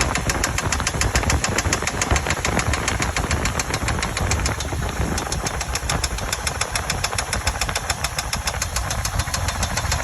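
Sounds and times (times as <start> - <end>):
car engine idling: 0.0 - 10.0
rapid engine ticking: 0.0 - 10.0.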